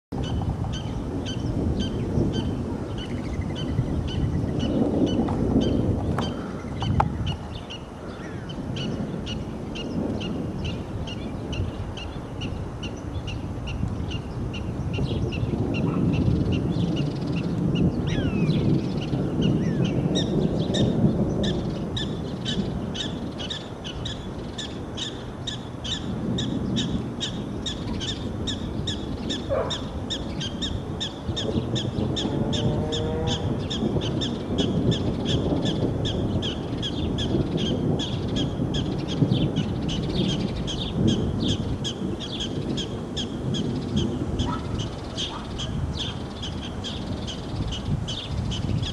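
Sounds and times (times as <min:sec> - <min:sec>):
wind buffeting microphone: 0:00.1 - 0:48.9.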